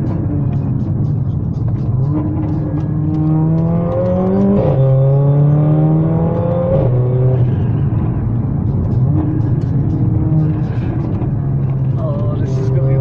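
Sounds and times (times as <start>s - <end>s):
car engine pulling hard: 0.0s - 13.0s
road rumble: 0.0s - 13.0s.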